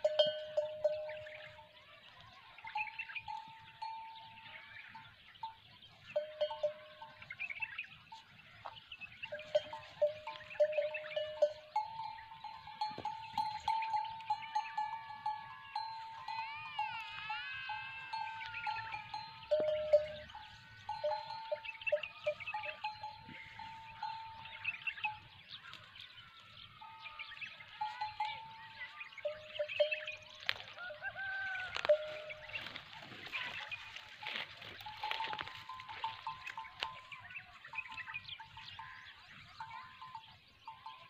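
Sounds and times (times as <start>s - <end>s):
animal bells clinking: 0.0s - 41.0s.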